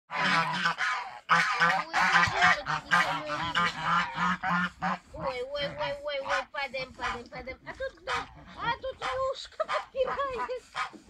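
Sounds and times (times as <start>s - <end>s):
geese honking and cackling: 0.1s - 11.0s.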